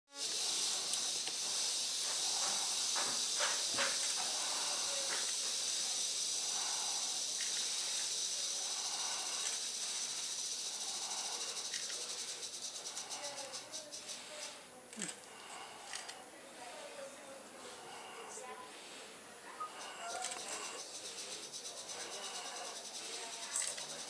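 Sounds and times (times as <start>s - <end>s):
rattlesnake rattling: 0.1s - 16.3s, 17.7s - 24.0s.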